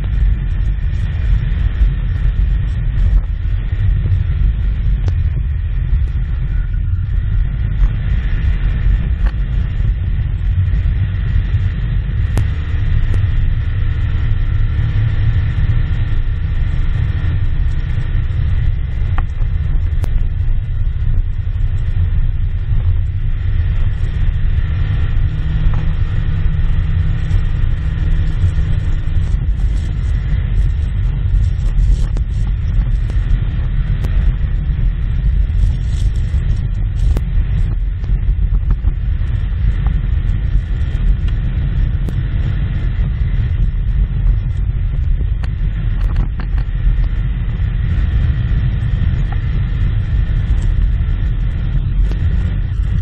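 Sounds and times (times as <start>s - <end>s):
machine engine rumbling: 0.0s - 53.0s.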